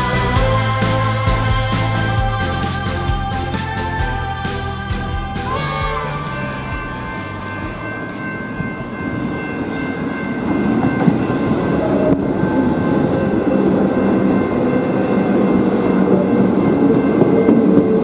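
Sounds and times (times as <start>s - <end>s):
electric train rail rumble: 0.0s - 18.0s.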